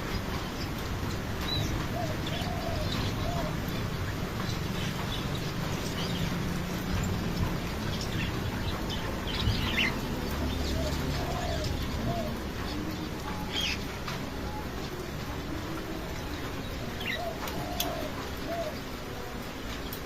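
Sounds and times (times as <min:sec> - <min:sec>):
birds chirping: 0:00.1 - 0:20.0.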